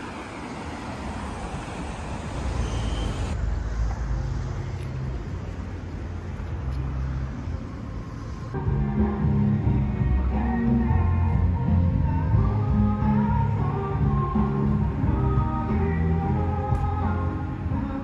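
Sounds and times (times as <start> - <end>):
distant traffic rumble: 0.0 - 18.0
steady outdoor rush: 0.0 - 18.0.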